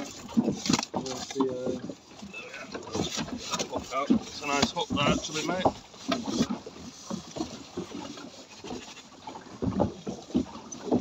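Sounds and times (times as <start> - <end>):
knocks and bumps on boat: 0.0 - 11.0.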